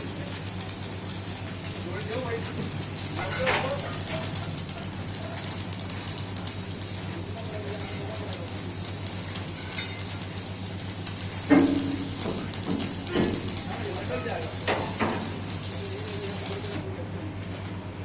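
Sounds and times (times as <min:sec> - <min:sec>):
arc welding crackling: 0:00.0 - 0:17.7.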